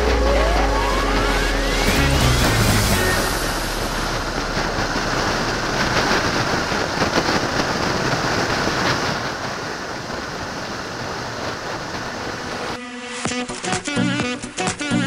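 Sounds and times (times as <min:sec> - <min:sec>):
motorcycle road noise: 0:00.0 - 0:12.8
wind roaring over microphone: 0:00.0 - 0:12.8.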